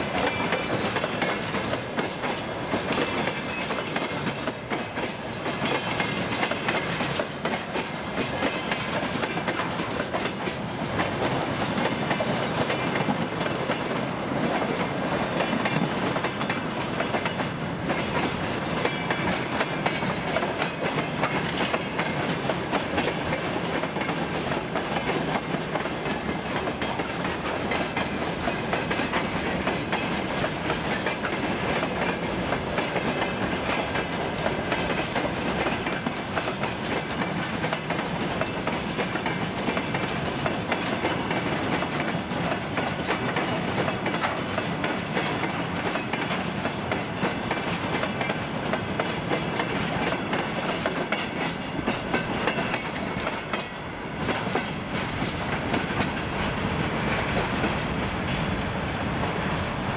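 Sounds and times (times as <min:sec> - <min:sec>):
wheels clattering on rails: 0:00.0 - 0:59.9.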